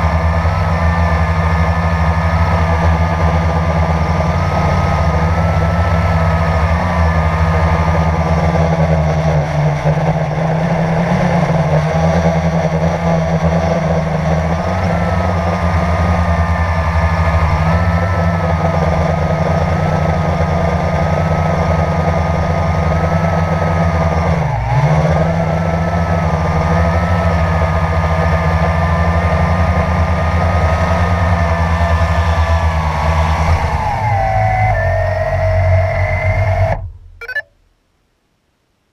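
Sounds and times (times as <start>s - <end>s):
drone propellers buzzing: 0.0s - 28.6s, 30.4s - 37.5s.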